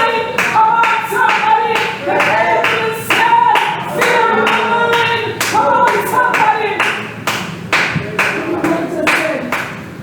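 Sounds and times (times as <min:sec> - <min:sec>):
congregation singing gospel: 0:00.0 - 0:08.5
hand-clapping in steady beat: 0:00.0 - 0:10.0.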